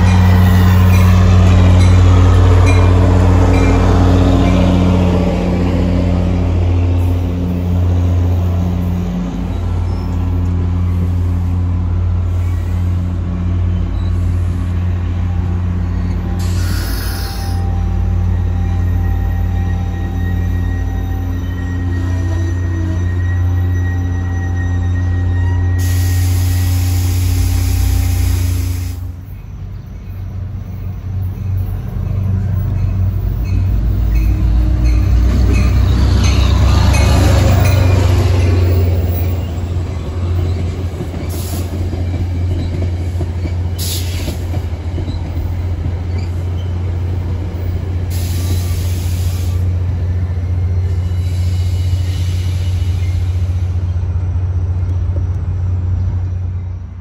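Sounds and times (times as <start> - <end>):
rail and wheel noise: 0.0 - 57.0
train engine drone: 0.0 - 57.0.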